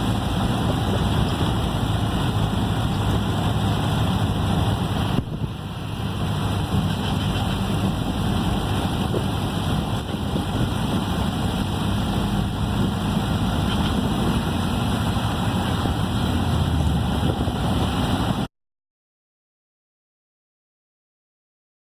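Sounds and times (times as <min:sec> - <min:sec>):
car engine droning: 0:00.0 - 0:18.5
road noise: 0:00.0 - 0:18.5.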